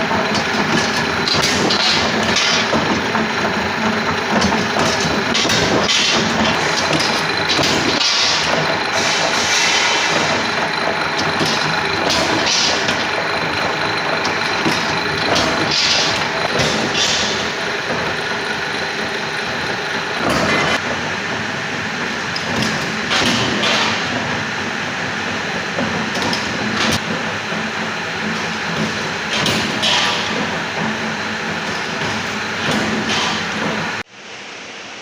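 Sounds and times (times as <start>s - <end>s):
punch press machine running: 0.0s - 34.1s.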